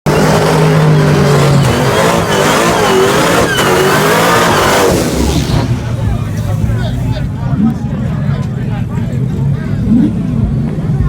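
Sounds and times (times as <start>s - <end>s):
car engine revving: 0.1s - 11.0s.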